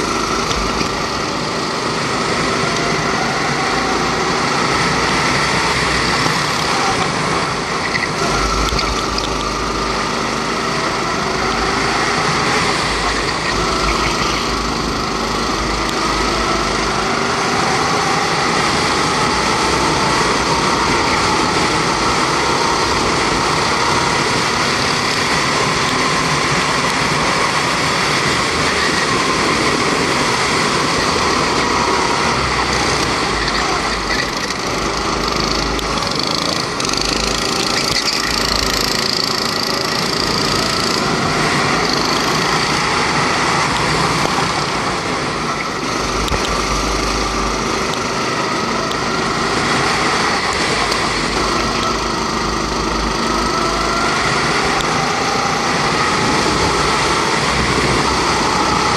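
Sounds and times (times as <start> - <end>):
go-kart engine racing: 0.0 - 58.9.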